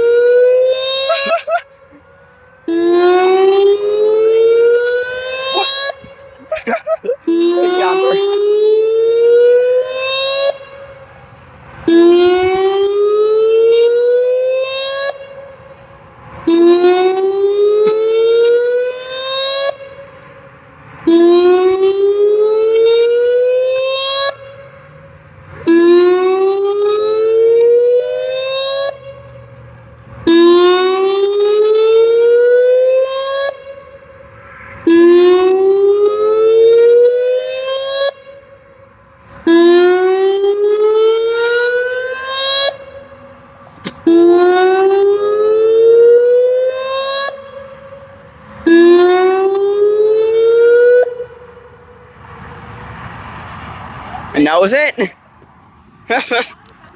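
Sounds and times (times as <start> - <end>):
warning siren whooping: 0.0 - 53.4.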